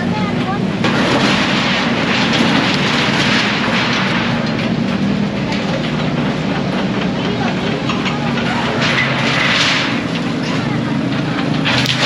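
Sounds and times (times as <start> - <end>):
debris clattering and crashing: 0.0 - 12.0
engine hum: 0.0 - 12.0.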